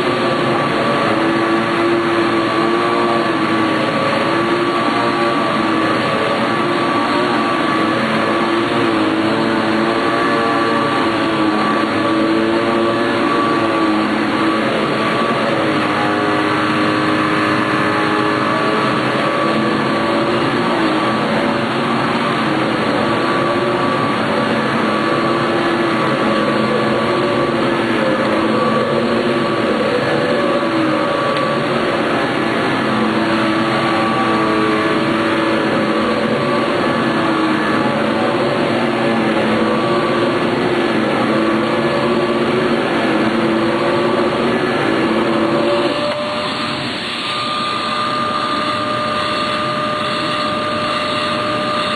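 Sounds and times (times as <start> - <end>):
upright vacuum cleaner running: 0.0 - 51.9.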